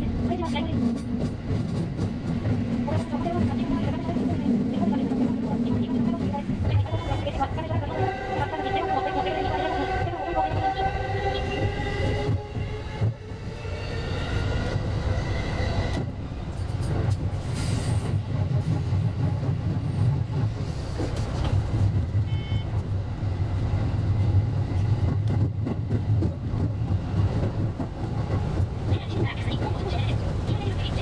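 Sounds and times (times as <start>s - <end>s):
electric train rumble: 0.0s - 31.0s.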